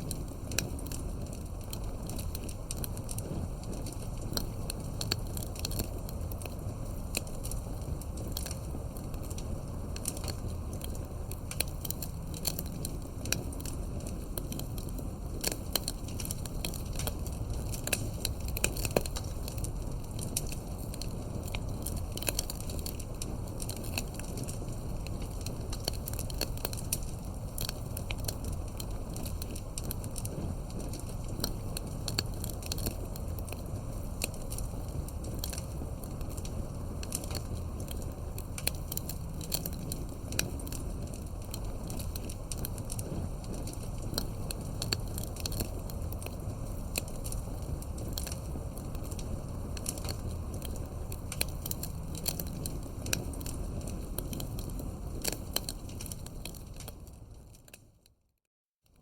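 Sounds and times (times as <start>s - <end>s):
rush of flame: 0.0s - 57.8s
campfire crackling and popping: 0.0s - 58.2s.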